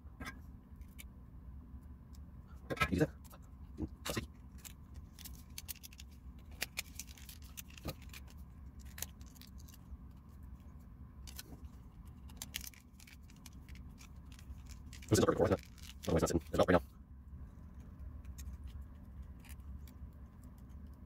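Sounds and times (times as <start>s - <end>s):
faint steady low hum: 0.0s - 21.0s.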